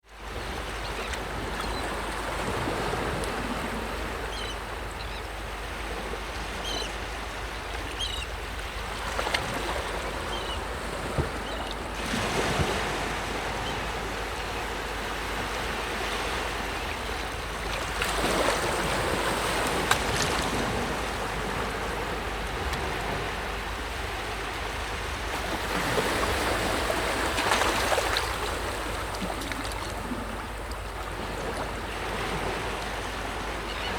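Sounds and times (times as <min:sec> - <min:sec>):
sea waves breaking: 0:00.2 - 0:33.9.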